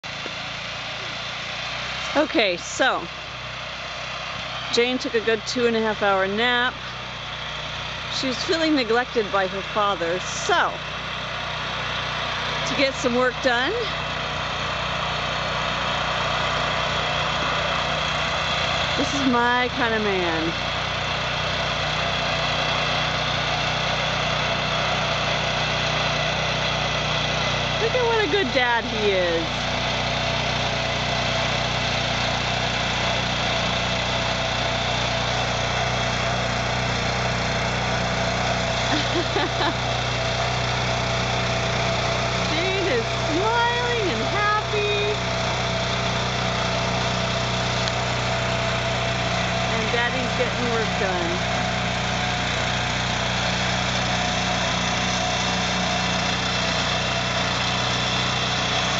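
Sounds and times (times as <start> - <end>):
tractor engine running under load: 0.0 - 58.9.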